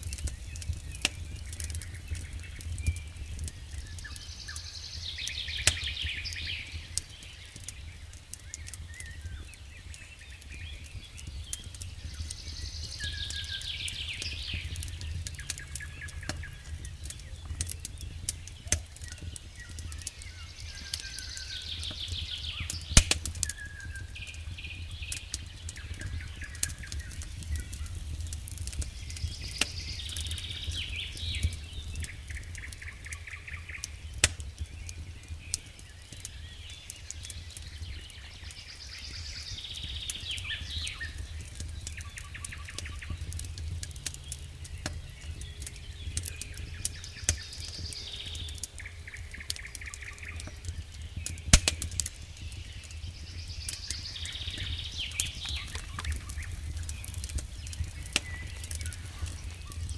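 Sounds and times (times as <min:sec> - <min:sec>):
campfire crackling: 0:00.0 - 0:59.9
songbird singing: 0:00.0 - 0:59.9.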